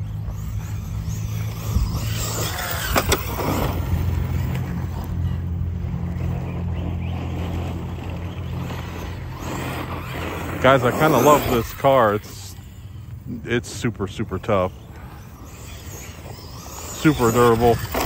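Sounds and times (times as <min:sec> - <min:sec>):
electric rc car motor: 0:00.0 - 0:18.0.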